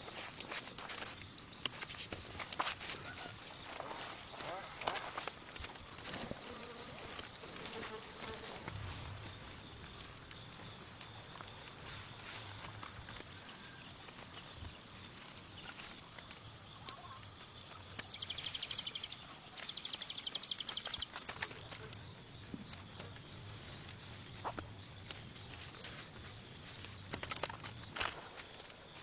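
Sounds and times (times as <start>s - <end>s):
light clicks and rustles: 0.0s - 29.0s.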